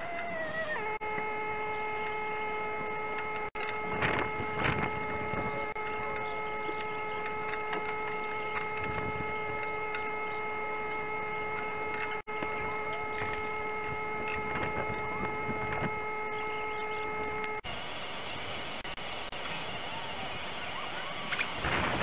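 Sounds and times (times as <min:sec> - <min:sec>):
machine hum with rough rumble: 0:00.0 - 0:22.0.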